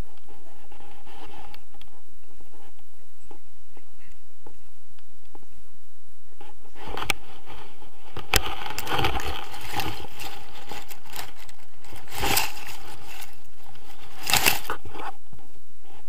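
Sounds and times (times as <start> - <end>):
grass rustling against microphone: 0.0 - 16.0.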